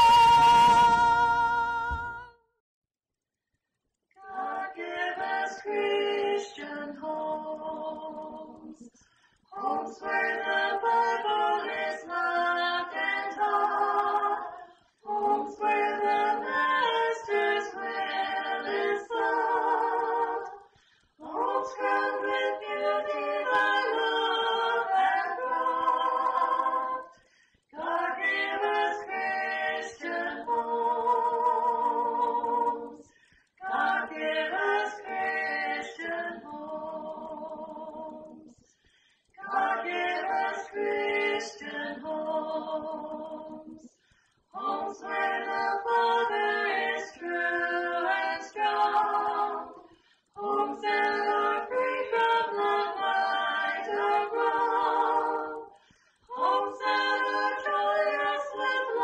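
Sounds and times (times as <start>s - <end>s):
unaccompanied choir singing: 0.0s - 2.3s, 4.2s - 59.0s.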